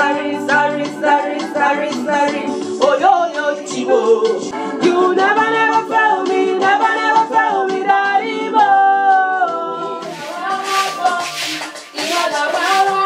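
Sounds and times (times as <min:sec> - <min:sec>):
person singing worship song: 0:00.0 - 0:13.0.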